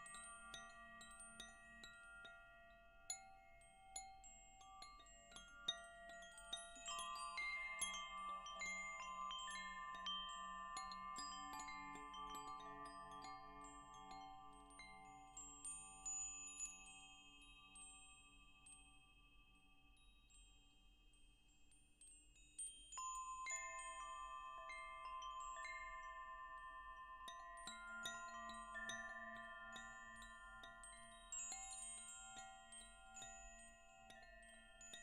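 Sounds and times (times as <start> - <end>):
wind chimes ringing: 0.0 - 19.1, 22.4 - 35.0.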